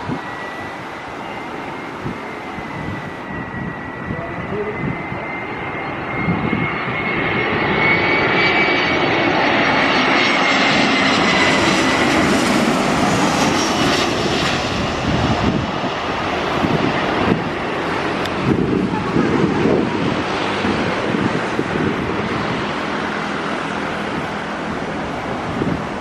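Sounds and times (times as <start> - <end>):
high whine: 0.0 - 26.0
jet engines passing overhead: 0.0 - 26.0.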